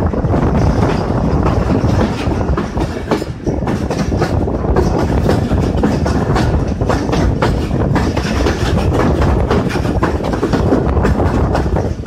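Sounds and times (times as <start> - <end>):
clatter over the track: 0.0 - 12.0
train wheels rumbling on rails: 0.0 - 12.0.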